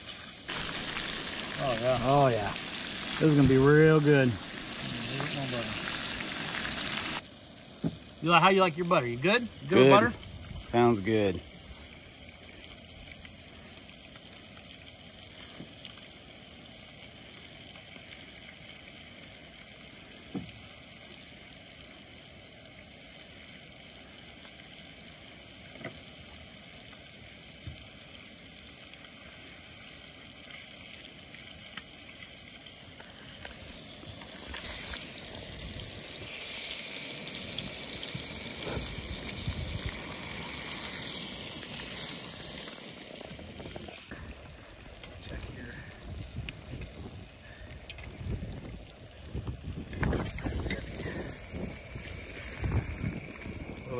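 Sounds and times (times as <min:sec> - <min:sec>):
fish frying in butter: 0:00.0 - 0:53.9.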